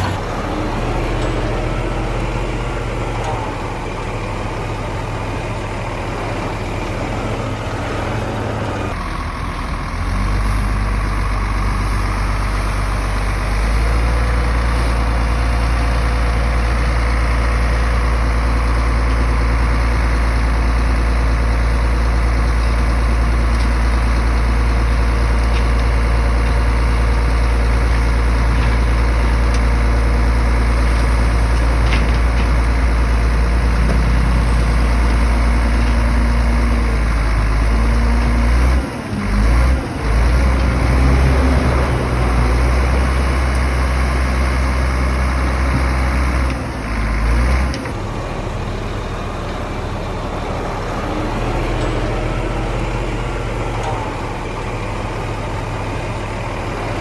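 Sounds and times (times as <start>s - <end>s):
diesel engine droning under load: 0.0s - 57.0s.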